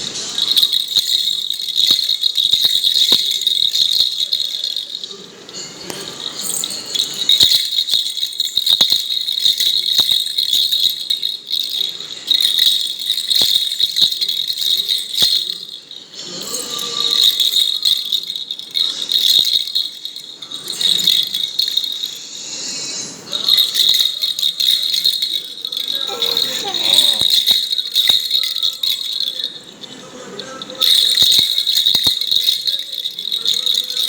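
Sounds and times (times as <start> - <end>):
baby's rattle jingling: 0.0 - 34.0.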